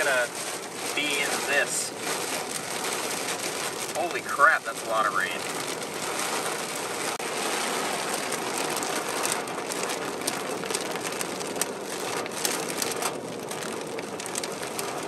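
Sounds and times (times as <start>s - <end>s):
rain pelting car: 0.0s - 15.0s
tyres hissing on wet road: 0.0s - 15.0s.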